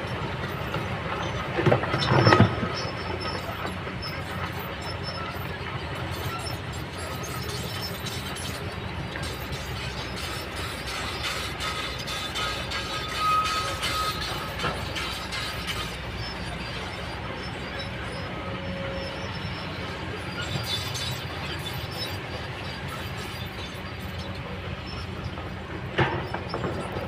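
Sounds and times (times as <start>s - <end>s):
excavator engine and hydraulic rumble: 0.0s - 27.0s
metallic squeal: 0.1s - 27.0s.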